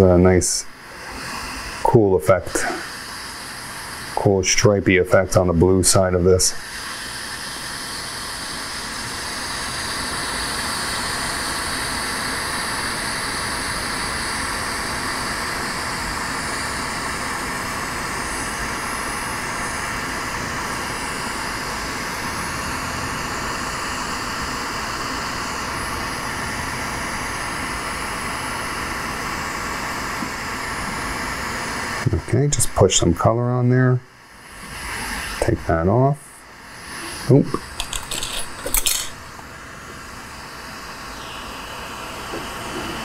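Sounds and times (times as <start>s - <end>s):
torch flame hissing: 0.0s - 43.0s.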